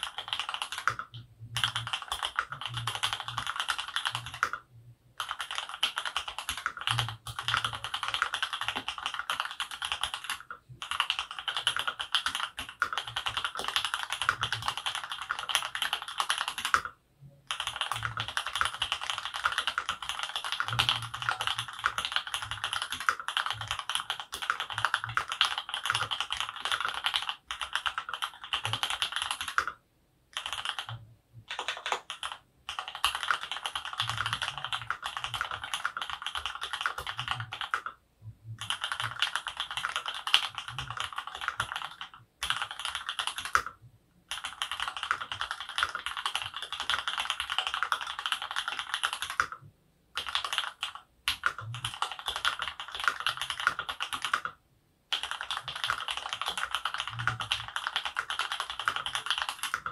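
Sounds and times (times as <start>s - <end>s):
mechanical keyboard typing: 0.0s - 38.0s, 38.6s - 59.9s.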